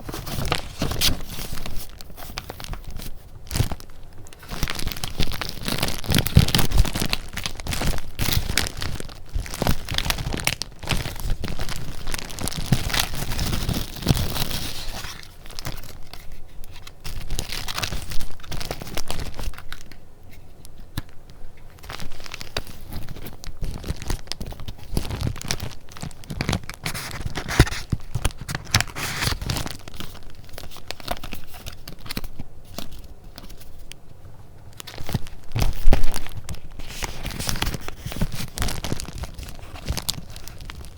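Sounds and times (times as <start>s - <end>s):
paper clicking and rustling: 0.0s - 34.0s, 34.7s - 40.9s.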